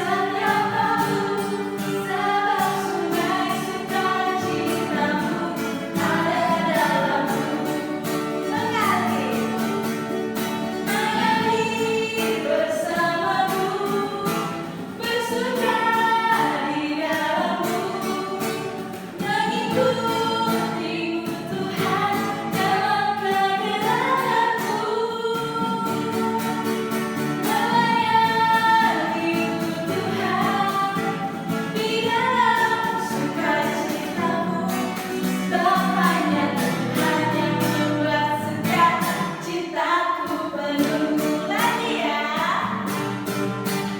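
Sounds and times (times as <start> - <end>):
voices singing worship song: 0.0 - 43.9.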